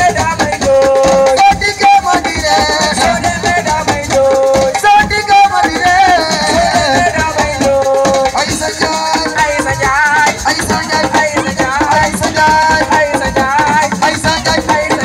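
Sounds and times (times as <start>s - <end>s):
dense percussion: 0.0s - 15.0s
person singing: 0.0s - 15.0s
rattling shaker: 0.0s - 15.0s.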